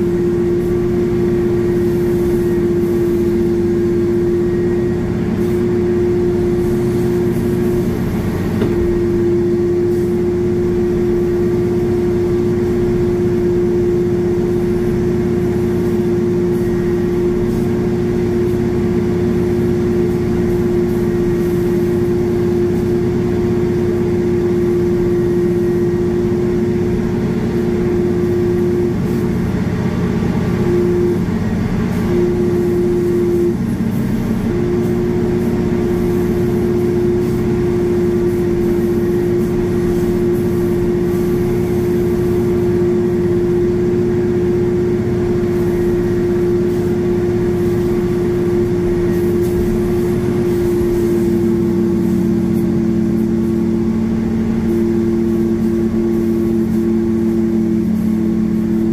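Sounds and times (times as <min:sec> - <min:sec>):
tug engine drone: 0:00.0 - 0:58.9.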